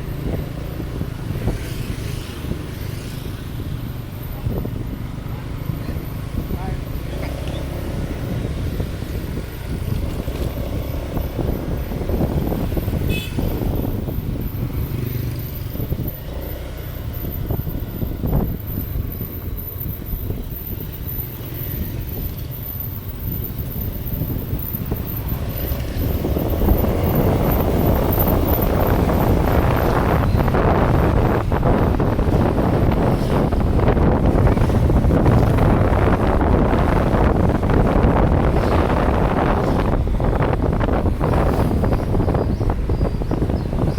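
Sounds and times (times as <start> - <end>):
vehicle engine rumbling: 0.0 - 43.9
wind noise on microphone: 0.0 - 43.9.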